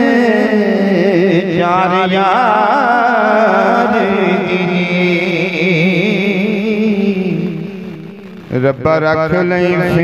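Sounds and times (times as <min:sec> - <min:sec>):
man singing into microphone: 0:00.0 - 0:10.0.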